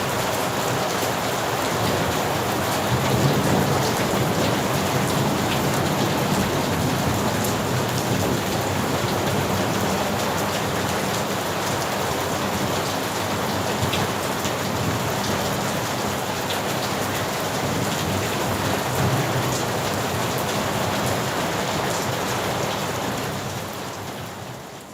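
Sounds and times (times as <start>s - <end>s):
raindrops ticking on a surface: 0.0s - 24.9s.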